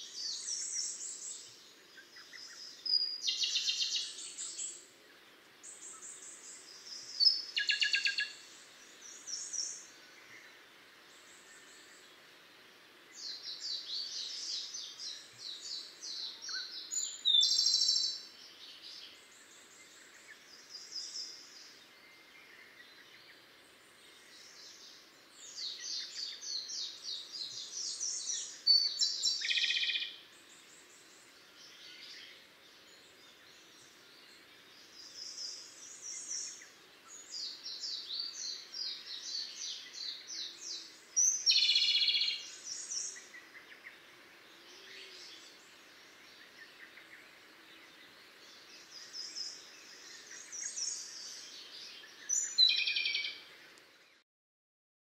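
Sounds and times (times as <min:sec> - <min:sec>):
bird singing twittering trills: 0:00.0 - 0:04.9, 0:05.6 - 0:12.2, 0:13.1 - 0:54.2.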